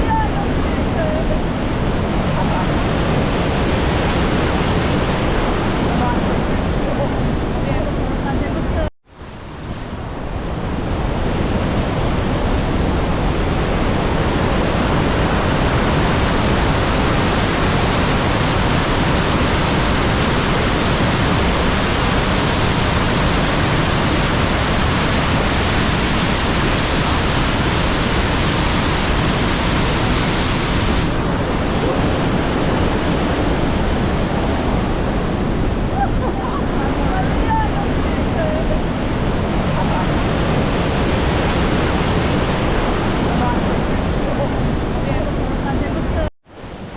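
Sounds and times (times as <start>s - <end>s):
waterfall crashing: 0.8s - 8.8s, 11.3s - 46.2s.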